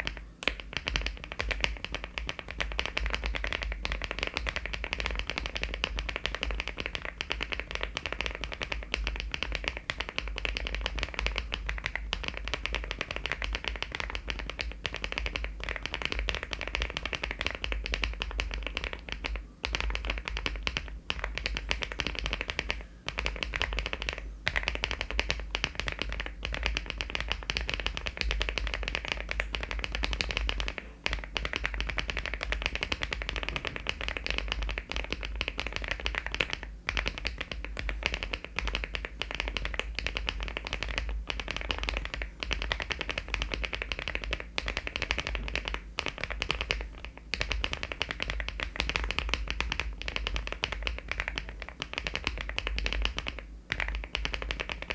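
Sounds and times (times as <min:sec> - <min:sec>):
fast typing on mechanical keyboard: 0:00.0 - 0:54.9.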